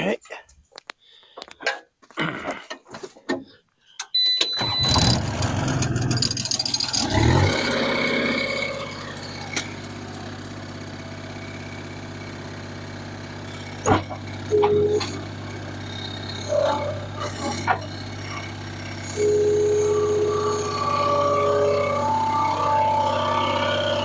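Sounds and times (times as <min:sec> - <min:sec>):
gasoline engine starting and idling: 0:04.2 - 0:24.0.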